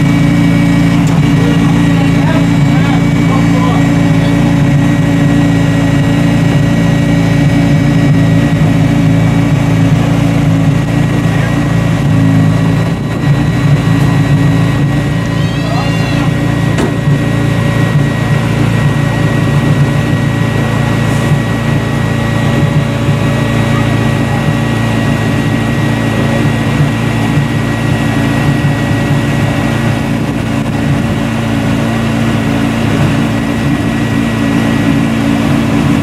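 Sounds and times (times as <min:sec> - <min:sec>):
hydraulic pump humming: 0:00.0 - 0:36.0.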